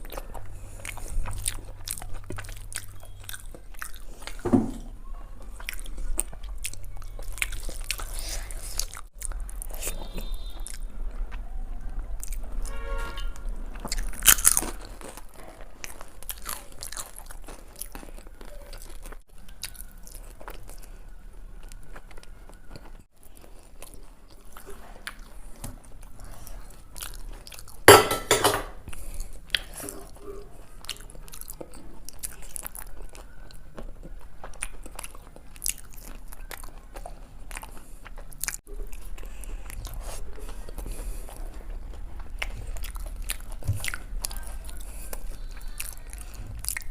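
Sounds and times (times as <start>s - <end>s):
crunchy chewing: 0.0s - 28.0s, 28.8s - 46.9s.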